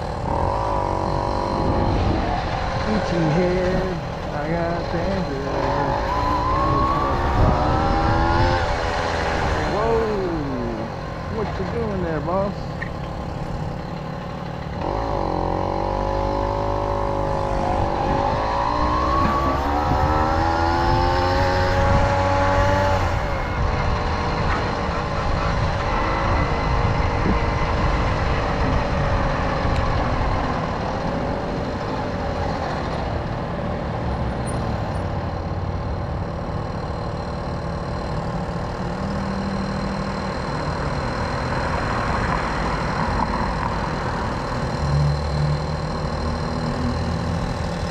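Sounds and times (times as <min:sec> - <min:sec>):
moped two-stroke engine accelerating: 0:00.0 - 0:34.0, 0:34.9 - 0:47.9.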